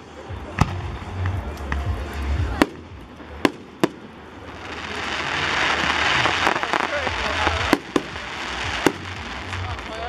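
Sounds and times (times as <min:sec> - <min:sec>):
firework bangs: 0:00.0 - 0:10.0.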